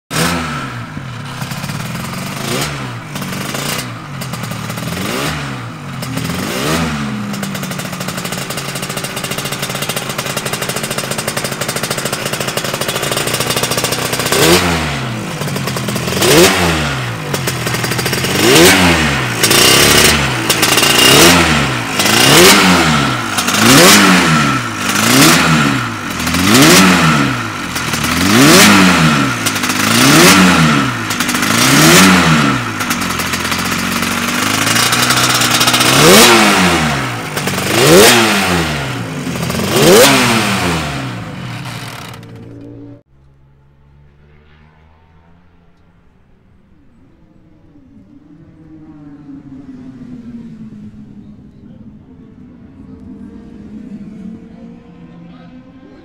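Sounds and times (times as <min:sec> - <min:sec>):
racing engine revving: 0:00.0 - 0:56.0.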